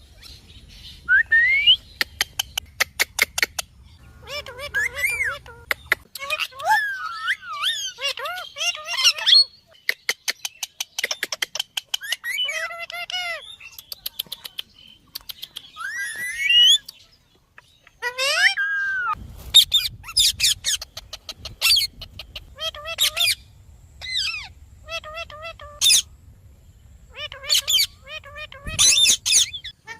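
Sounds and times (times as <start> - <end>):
parakeets calling and squawking: 1.8 - 26.3, 26.9 - 29.9.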